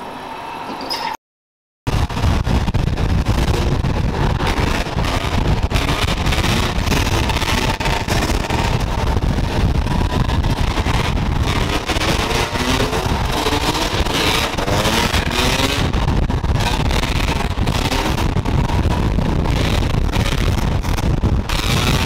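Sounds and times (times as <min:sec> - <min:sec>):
low rumble: 0:01.9 - 0:22.0
dirt bike engines revving: 0:03.0 - 0:22.0.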